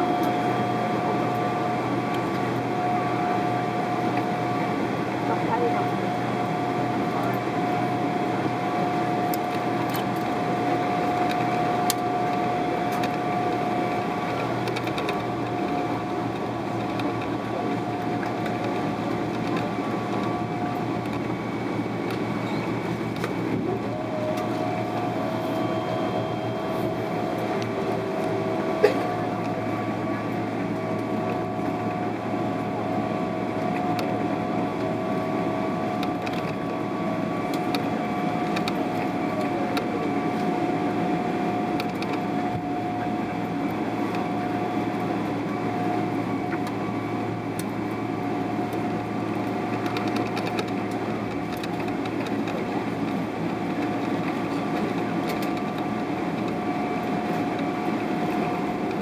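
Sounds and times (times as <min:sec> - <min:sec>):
airplane cabin hum: 0:00.0 - 0:59.0
constant whine: 0:00.0 - 0:59.0.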